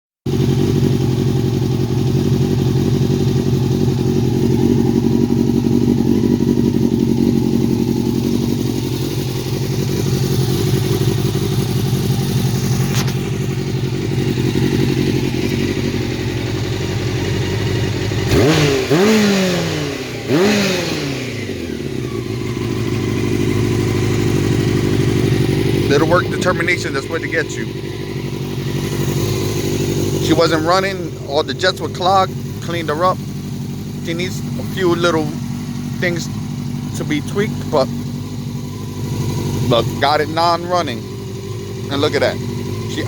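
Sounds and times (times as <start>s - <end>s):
motorcycle engine idling and revving: 0.2s - 43.0s.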